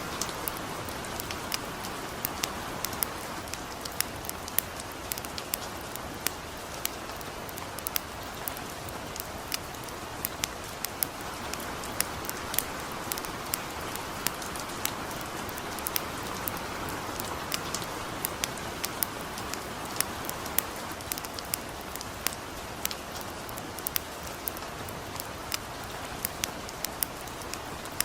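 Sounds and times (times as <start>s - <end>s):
campfire crackling and popping: 0.0s - 28.0s
gentle rain hissing: 0.0s - 28.0s.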